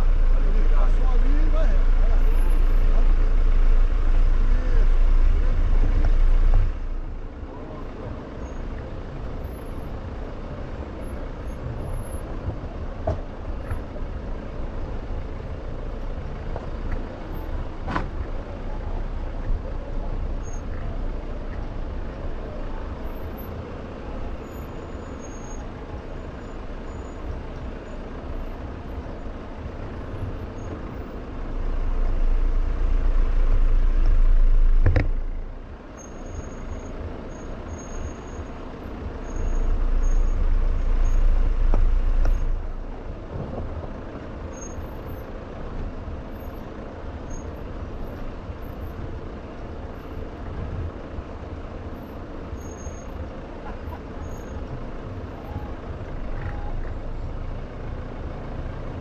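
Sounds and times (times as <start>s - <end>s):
vehicle driving on dirt trail: 0.0s - 59.0s.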